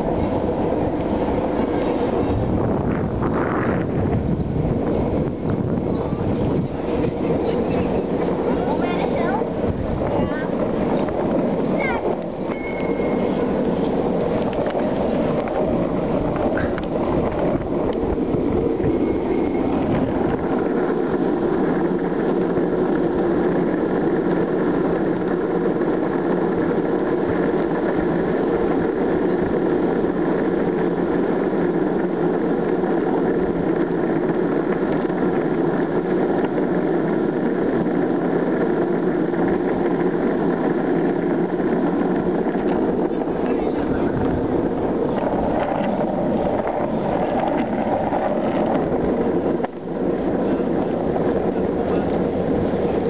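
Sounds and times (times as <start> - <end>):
skateboard wheels rolling on asphalt: 0.0 - 53.0.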